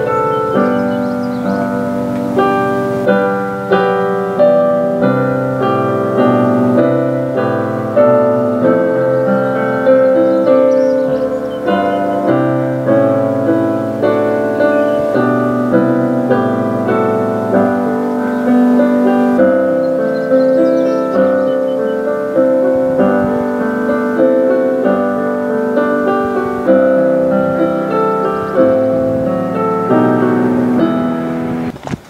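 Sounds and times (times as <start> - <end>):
slow piano music: 0.0 - 31.8.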